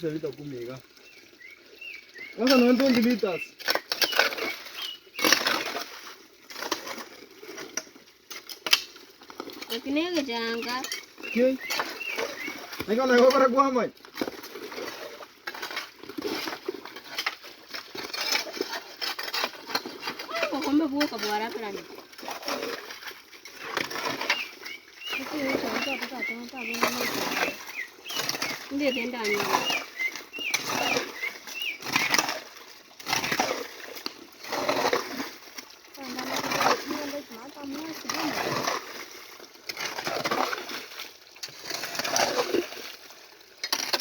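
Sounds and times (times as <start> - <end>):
water splashing: 0.0 - 44.0.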